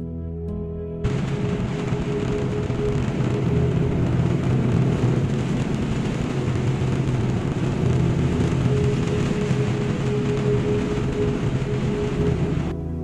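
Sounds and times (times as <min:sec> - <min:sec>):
rain on windshield: 0:01.1 - 0:12.7
tyres hissing on wet road: 0:01.1 - 0:12.7
steady hum: 0:01.1 - 0:13.0
truck engine drone: 0:01.1 - 0:13.0.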